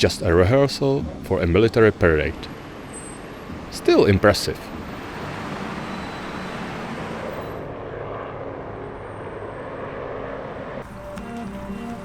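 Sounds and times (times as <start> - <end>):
engine drone of passing machinery: 0.0 - 12.0.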